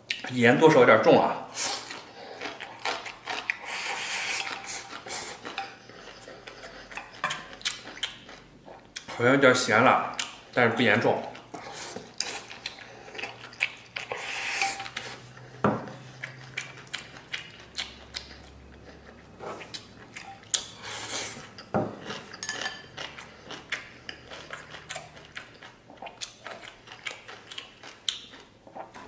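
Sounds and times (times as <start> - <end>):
chewing: 1.6 - 9.2, 11.2 - 29.0.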